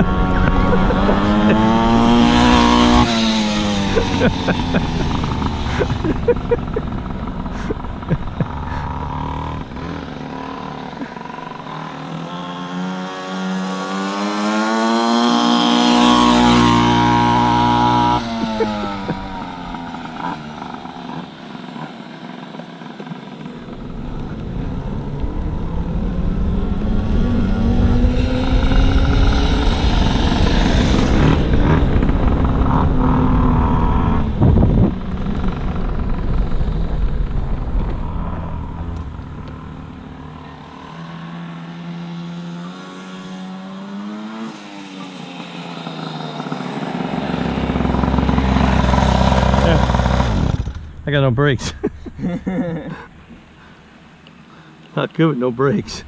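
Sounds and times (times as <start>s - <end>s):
small engine revving hard: 0.0s - 36.9s, 38.0s - 50.9s.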